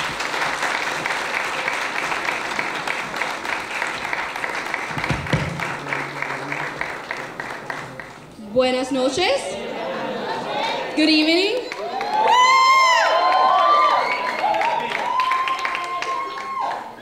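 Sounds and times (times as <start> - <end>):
crowd applauding: 0.0 - 8.4, 11.4 - 17.0.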